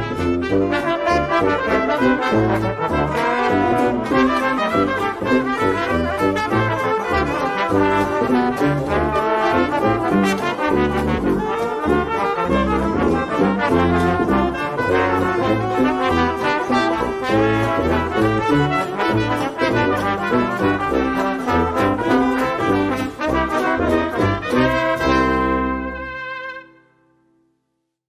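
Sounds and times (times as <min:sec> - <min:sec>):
brass background music: 0:00.0 - 0:27.3.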